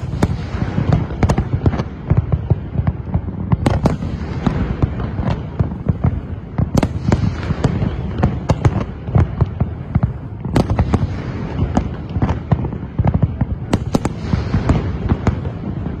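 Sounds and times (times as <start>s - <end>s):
fireworks bangs and crackles: 0.0s - 16.0s
low rumble of shells bursting: 0.0s - 16.0s.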